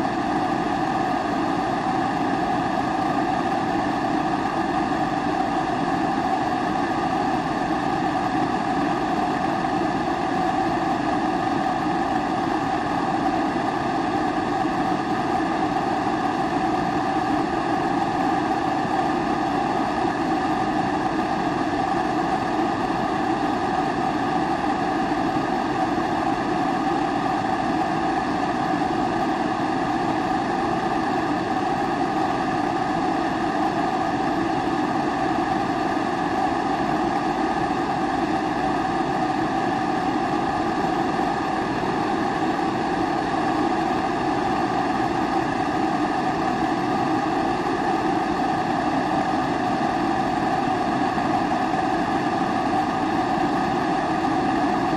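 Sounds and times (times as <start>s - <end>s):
stove burning with rushing sound: 0.0s - 54.9s.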